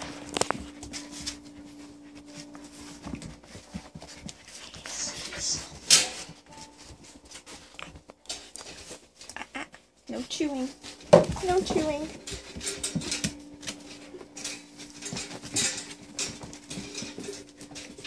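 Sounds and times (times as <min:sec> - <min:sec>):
scuffling clicks: 0:00.0 - 0:09.4, 0:10.4 - 0:18.0
puppies panting and snuffling: 0:00.0 - 0:18.0.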